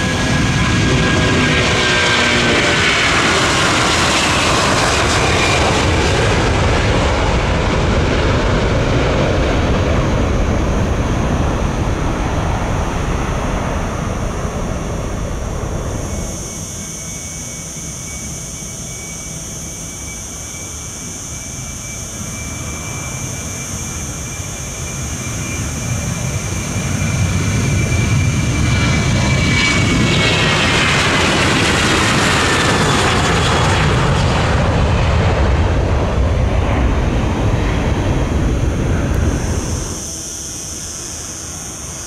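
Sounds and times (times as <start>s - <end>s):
high jet whine falling in pitch: 0.0s - 42.0s
jet engines at takeoff: 0.0s - 42.0s.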